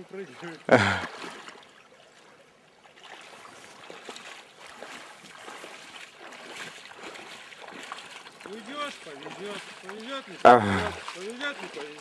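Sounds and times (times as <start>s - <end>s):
light water splashing: 0.0s - 12.0s
river water running over stones: 0.0s - 12.0s.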